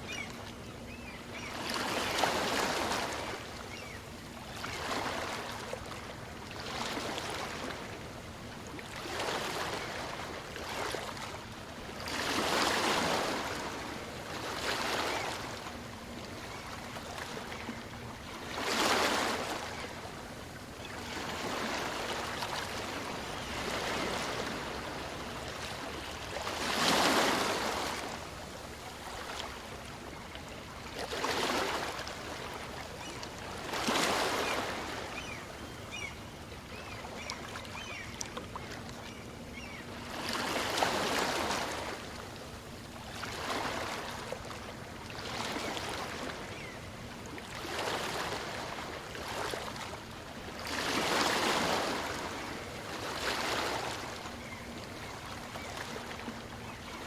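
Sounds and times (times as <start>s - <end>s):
small waves breaking on beach: 1.4s - 8.1s, 8.8s - 36.1s, 39.1s - 57.0s.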